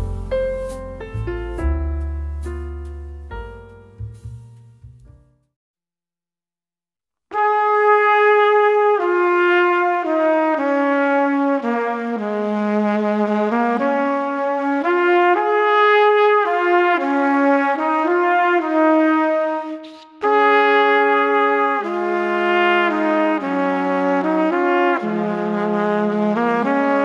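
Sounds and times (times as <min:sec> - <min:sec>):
brass music with trumpet: 0:00.0 - 0:03.0, 0:07.3 - 0:27.0.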